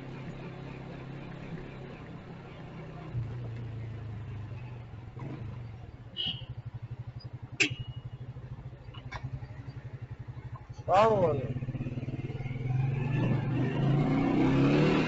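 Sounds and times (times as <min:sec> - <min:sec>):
motorcycle engine idling: 0:00.0 - 0:12.7.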